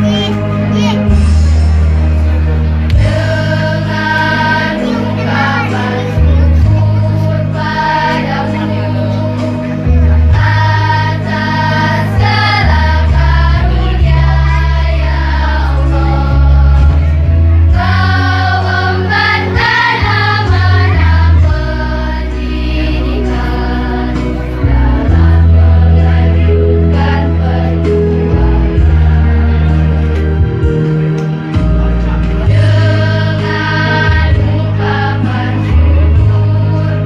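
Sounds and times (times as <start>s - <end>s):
children's choir singing: 0.0s - 37.0s
instrumental backing track: 0.0s - 37.0s.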